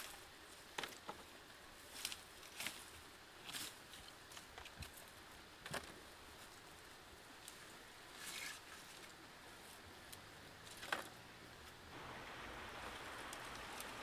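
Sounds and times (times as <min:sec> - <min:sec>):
dry sticks and leaves crackling: 0:00.0 - 0:14.0.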